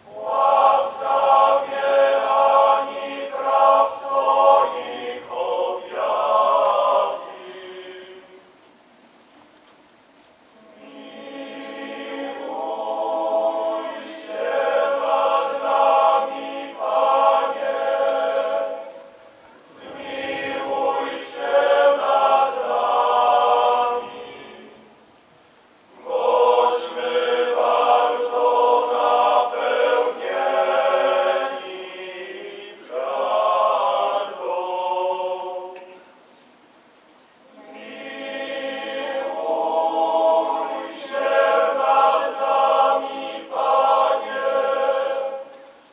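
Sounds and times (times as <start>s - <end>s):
choir singing a chant: 0.0s - 8.5s, 10.6s - 25.0s, 25.9s - 36.1s, 37.4s - 45.8s.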